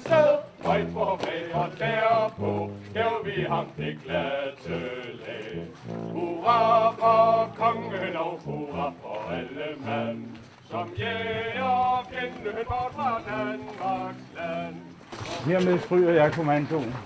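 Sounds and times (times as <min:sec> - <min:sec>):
group of voices singing: 0:00.0 - 0:15.3.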